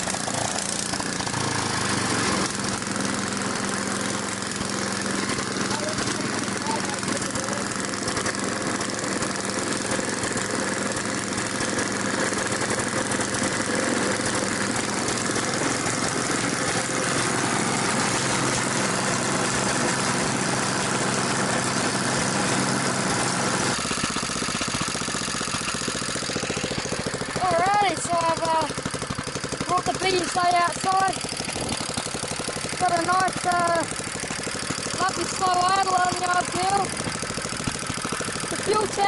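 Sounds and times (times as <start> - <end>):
single-cylinder engine running: 0.0 - 39.0.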